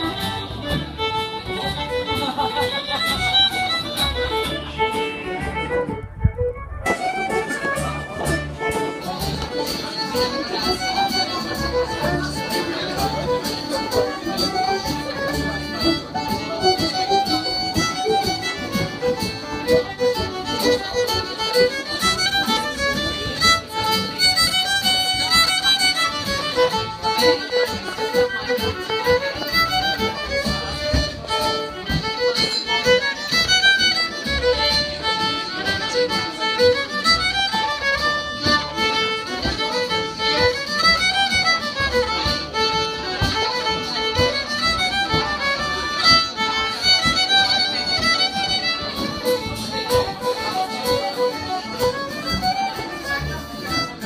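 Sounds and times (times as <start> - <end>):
background chatter: 0.0 - 54.0
bowed cello: 0.0 - 54.0
fiddle playing fast tune: 0.0 - 54.0
frame drum: 3.4 - 52.0.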